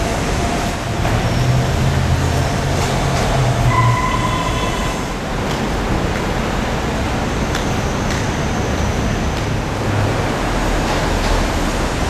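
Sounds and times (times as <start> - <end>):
vehicle rumble and hiss: 0.0 - 3.7, 4.6 - 12.0.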